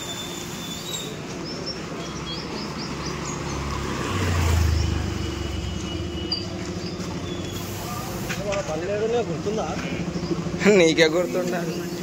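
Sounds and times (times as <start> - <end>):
birds chirping: 0.0 - 12.0
street noise: 0.0 - 12.0
vehicle passing rumble: 0.0 - 12.0.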